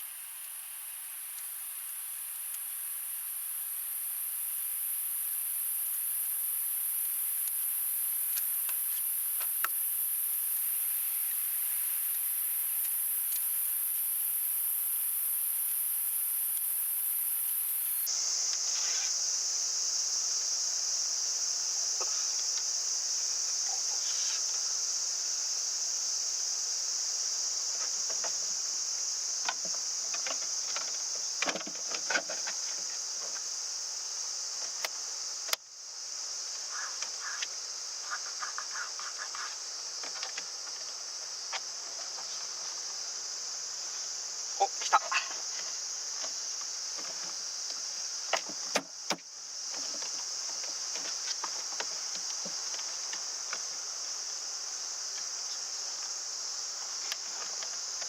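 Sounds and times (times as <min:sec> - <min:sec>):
insects droning high-pitched: 0:00.0 - 0:58.0.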